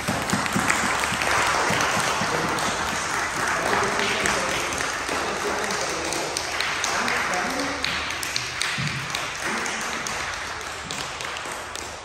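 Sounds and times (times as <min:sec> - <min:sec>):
children clapping: 0:00.0 - 0:12.0.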